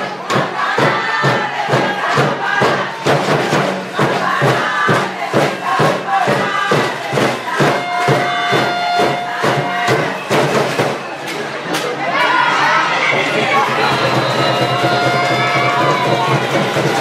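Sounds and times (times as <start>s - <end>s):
fast steady drumbeat: 0.0s - 11.2s, 13.0s - 17.0s
spectators chanting and shouting: 0.0s - 17.0s.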